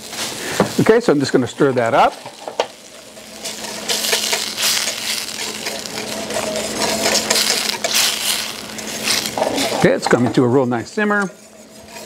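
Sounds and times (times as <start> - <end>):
wire whisk scraping metal pan: 1.3 - 12.0.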